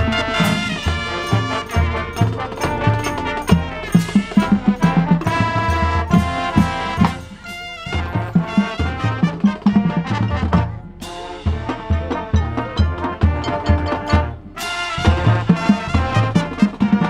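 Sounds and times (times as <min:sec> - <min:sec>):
marching band brass: 0:00.0 - 0:17.0
steady drum beat: 0:00.0 - 0:17.0.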